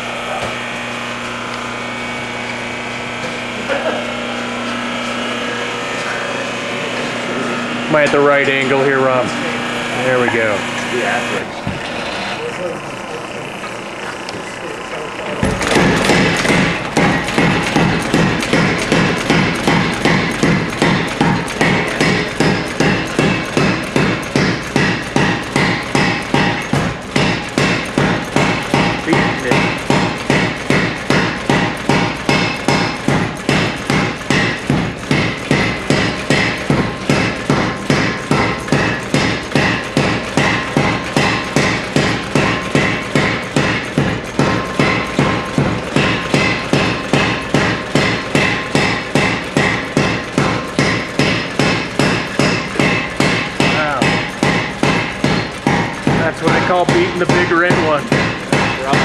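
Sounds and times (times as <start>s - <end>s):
power hammer pounding metal: 0.0s - 59.0s.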